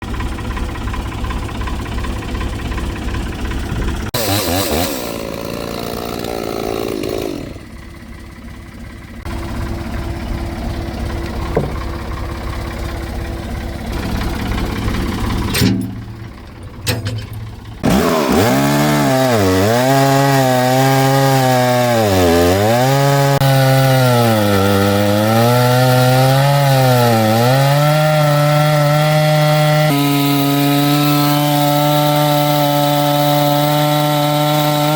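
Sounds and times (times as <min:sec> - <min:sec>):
chainsaw cutting log: 0:02.5 - 0:07.8, 0:09.2 - 0:34.9.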